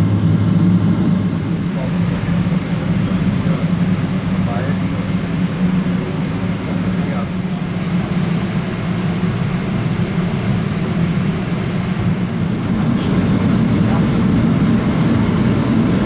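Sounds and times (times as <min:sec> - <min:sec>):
jet engine spooling up: 0:00.9 - 0:16.0.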